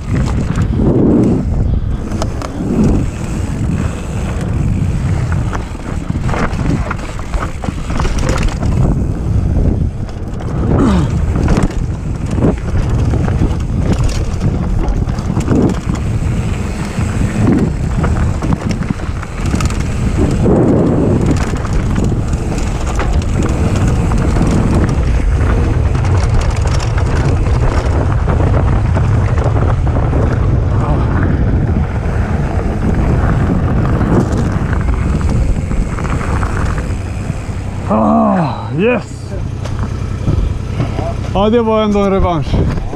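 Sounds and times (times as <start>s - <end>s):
bike knocks and rattles: 0.0s - 38.0s, 39.3s - 42.9s
bike tyre noise on gravel: 0.0s - 42.9s
wind buffeting microphone: 0.0s - 42.9s.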